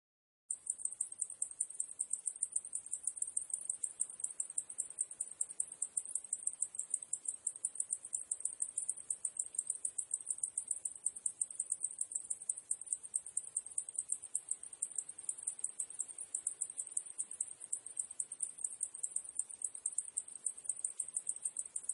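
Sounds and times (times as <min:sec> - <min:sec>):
cicadas chirring: 0:00.5 - 0:21.9.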